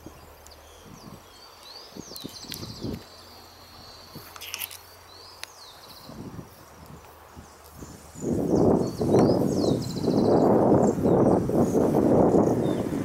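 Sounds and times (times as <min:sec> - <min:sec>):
songbird whistle and trill: 0:00.0 - 0:12.9.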